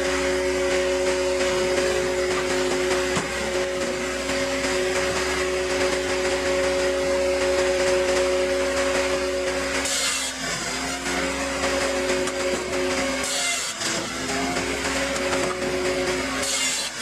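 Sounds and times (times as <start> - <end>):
firewood processor humming: 0.0 - 17.0.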